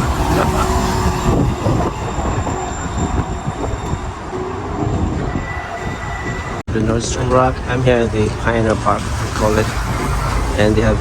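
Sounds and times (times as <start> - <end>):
city street noise: 0.0 - 11.0
light-rail train rumbling past: 0.0 - 11.0.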